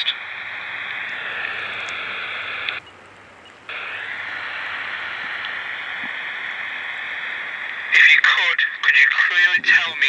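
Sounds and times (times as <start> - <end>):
speaker hiss: 0.0 - 10.0.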